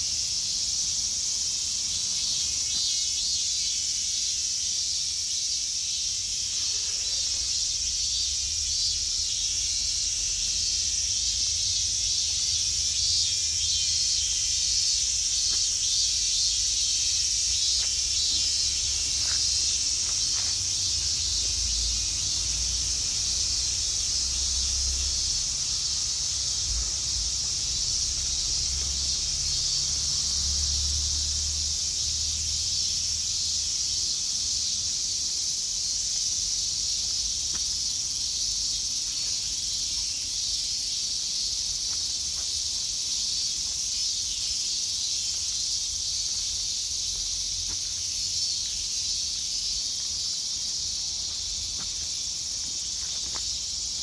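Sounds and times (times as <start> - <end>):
insects shrilling: 0.0 - 54.0.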